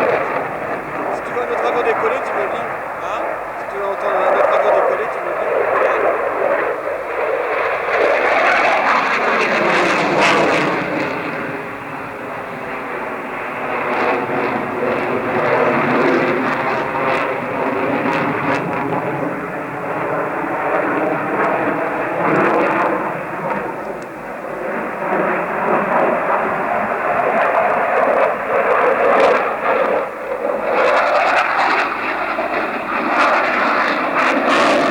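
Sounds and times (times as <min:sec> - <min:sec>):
aeroplane engine flying past: 0:00.0 - 0:34.9.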